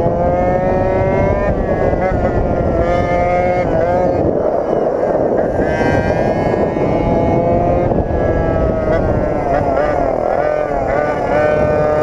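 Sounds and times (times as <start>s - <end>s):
two-stroke engine high revs: 0.0s - 12.0s
wind buffeting microphone: 0.0s - 12.0s.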